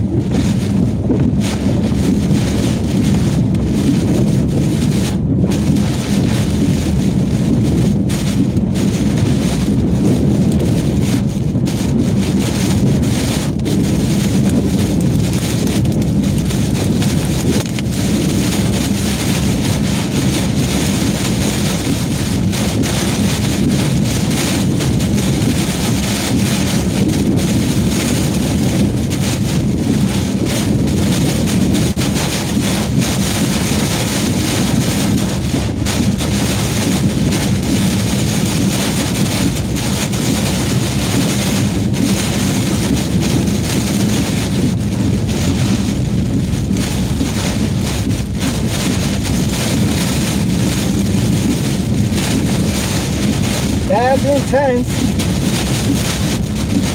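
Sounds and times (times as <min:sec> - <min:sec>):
loud rushing wind: 0:00.0 - 0:56.9
rain hitting windshield: 0:00.0 - 0:56.9.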